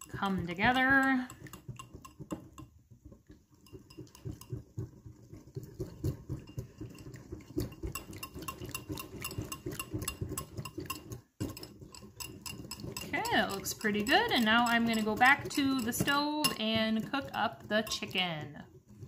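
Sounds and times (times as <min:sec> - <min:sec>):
whisk clicking against glass bowl: 0:00.0 - 0:19.0.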